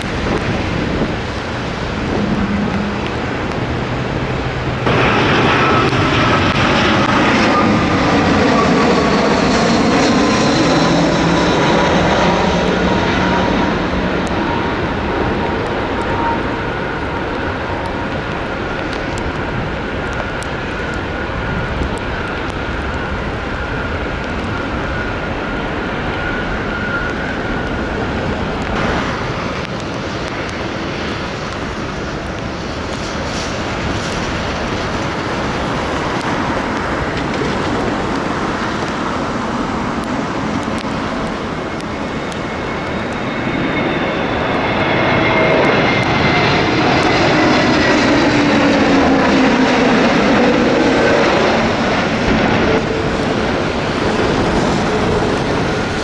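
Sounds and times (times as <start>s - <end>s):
jet engine high whine: 0.0s - 56.0s
jet engines rushing: 0.0s - 56.0s.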